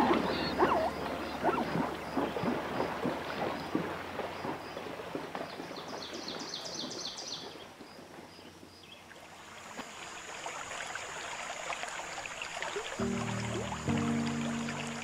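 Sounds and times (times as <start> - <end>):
stream water splashing: 0.0 - 15.0.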